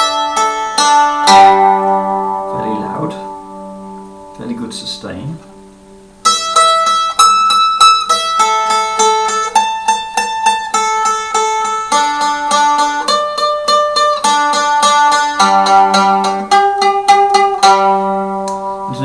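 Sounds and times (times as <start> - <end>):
tremolo mandolin melody: 0.0 - 19.0.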